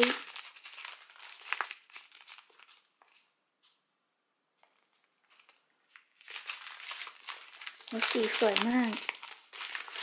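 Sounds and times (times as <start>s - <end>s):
plastic packets crinkling: 0.0s - 3.8s, 4.6s - 10.0s.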